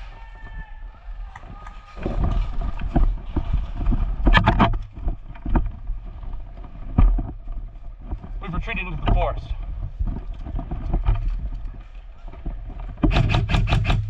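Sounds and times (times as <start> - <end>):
footsteps on rough ground: 0.0 - 13.1.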